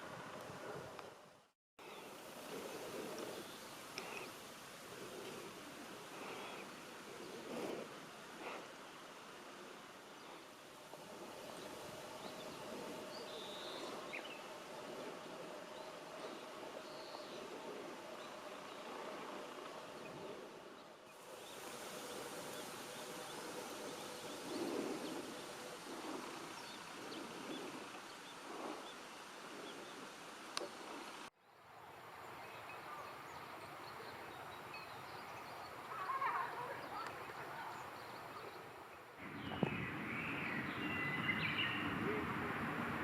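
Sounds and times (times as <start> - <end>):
outdoor ambient noise: 0.0 - 43.0.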